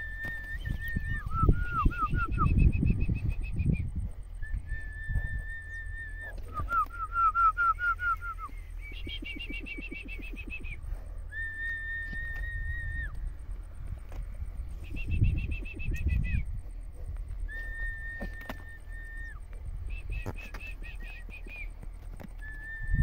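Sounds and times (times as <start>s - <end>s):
person whistling: 0.0s - 13.2s, 14.8s - 16.4s, 17.5s - 21.7s, 22.4s - 23.0s.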